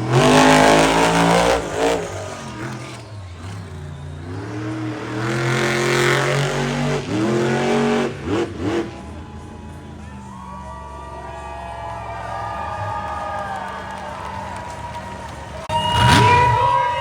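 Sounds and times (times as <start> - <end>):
truck engine revving: 0.0 - 11.1, 11.7 - 16.9.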